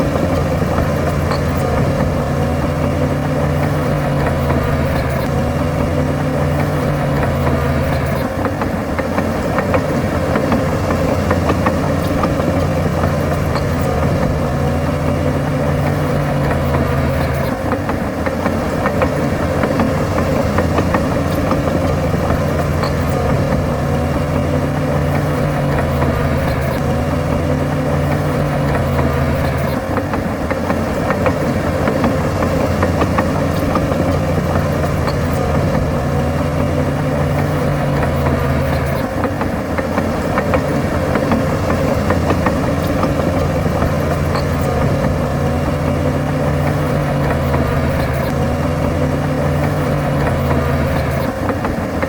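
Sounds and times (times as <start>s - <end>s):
heavy diesel machinery engine running: 0.0s - 52.0s.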